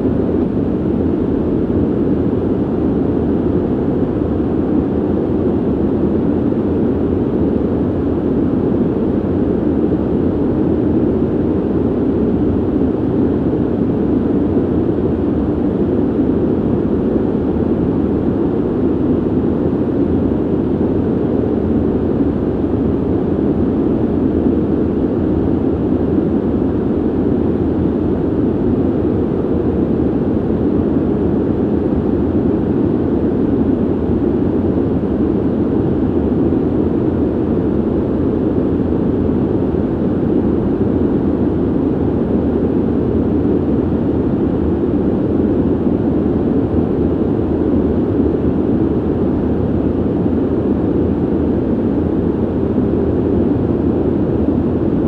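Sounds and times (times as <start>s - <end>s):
ventilation air rushing: 0.0s - 55.0s.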